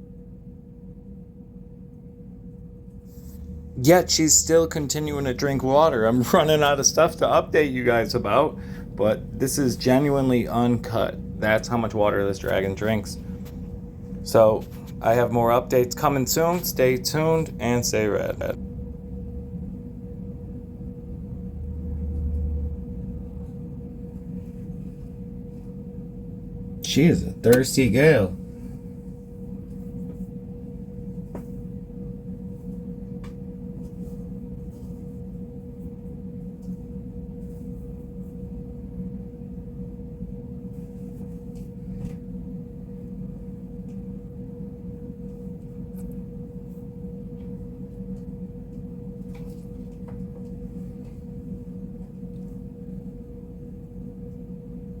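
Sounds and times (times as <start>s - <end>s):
steady low hum with tone: 0.0s - 55.0s.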